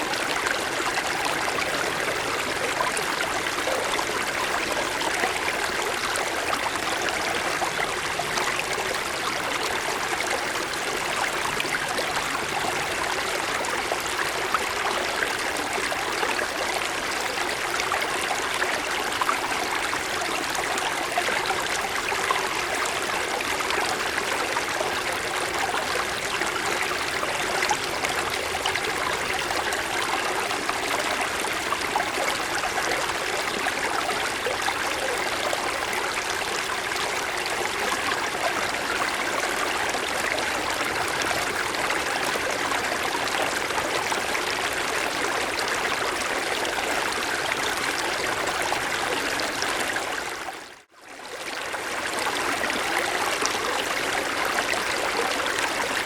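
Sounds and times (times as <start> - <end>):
stream rushing over stones: 0.0 - 50.5.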